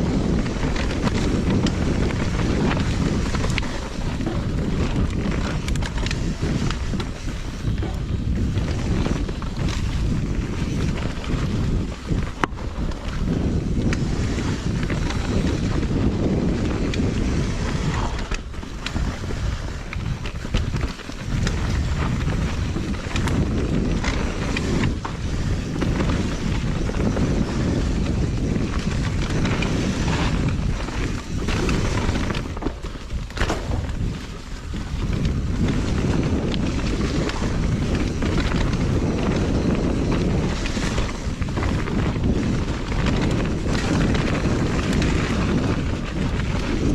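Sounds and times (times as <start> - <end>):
bike clacking and rattling: 0.0 - 46.9
knobby tyres rumbling on dirt: 0.0 - 46.9
wind buffeting microphone: 0.0 - 46.9.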